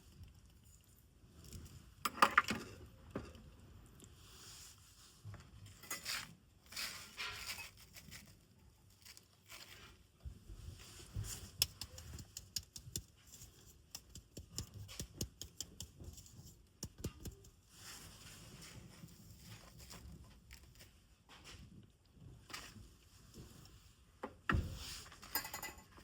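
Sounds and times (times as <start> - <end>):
rustling and crinkling: 2.6 - 26.0.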